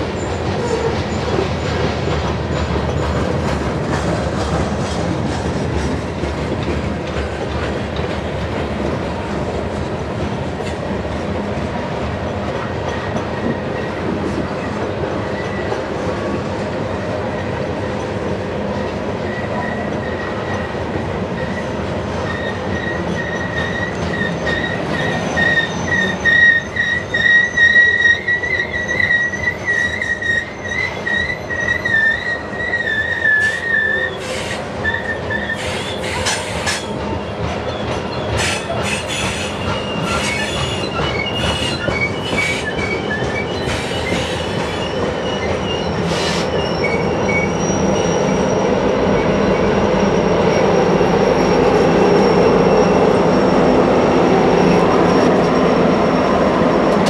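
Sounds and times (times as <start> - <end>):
train wheel squeal: 0.0 - 6.2, 12.2 - 57.0
rumble of train wheels: 0.0 - 57.0.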